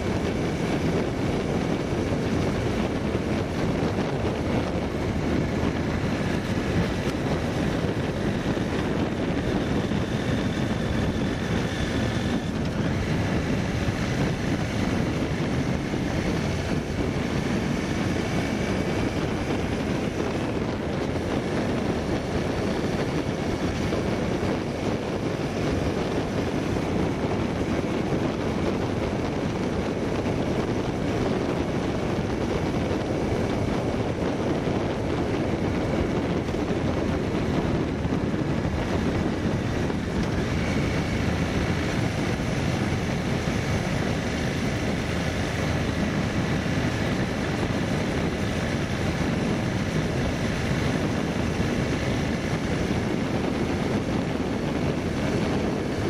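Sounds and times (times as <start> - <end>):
vehicle road and wind noise: 0.0 - 56.0.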